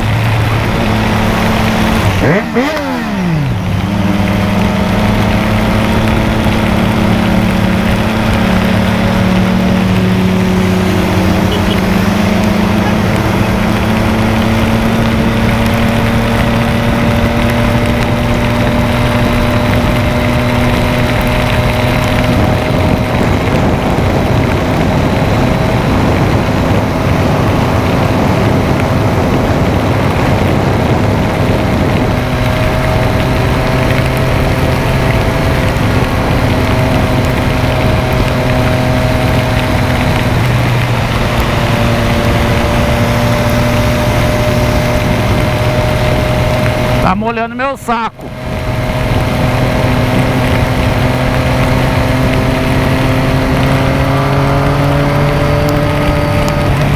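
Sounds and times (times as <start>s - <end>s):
motorcycle engine cruising: 0.0s - 56.9s
wet road noise: 0.0s - 56.9s
wind rush: 0.0s - 56.9s.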